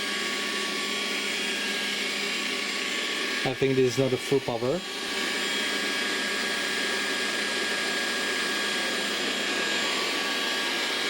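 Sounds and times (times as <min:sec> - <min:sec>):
robot vacuum suction fan whirring: 0:00.0 - 0:11.0.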